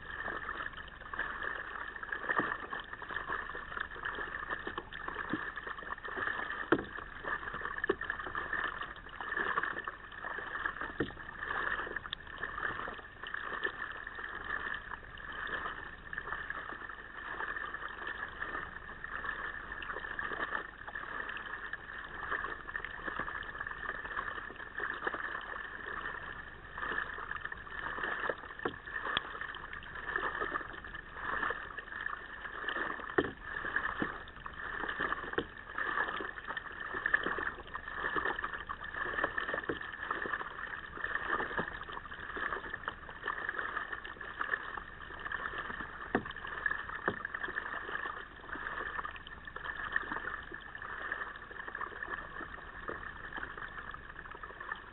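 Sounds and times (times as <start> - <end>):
water splashing against kayak: 0.0 - 54.9.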